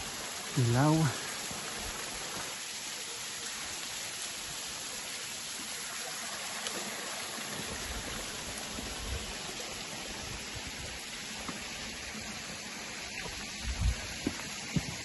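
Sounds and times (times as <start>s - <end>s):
waterfall splashing onto stones: 0.0s - 15.0s.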